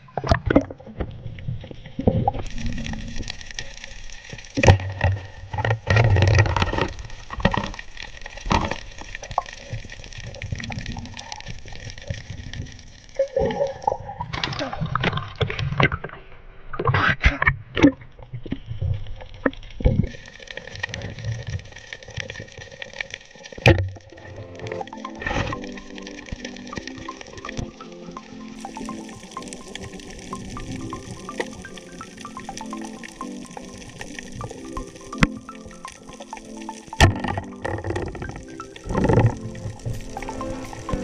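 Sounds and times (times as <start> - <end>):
muffled underwater gurgling: 0.0 - 15.5, 23.6 - 41.0.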